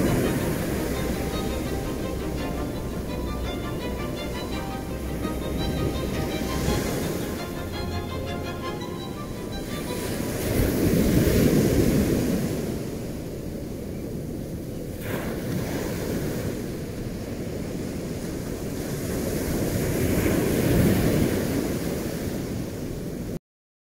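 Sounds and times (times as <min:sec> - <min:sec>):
surf washing over rocks: 0:00.0 - 0:23.4
wind: 0:00.0 - 0:23.4.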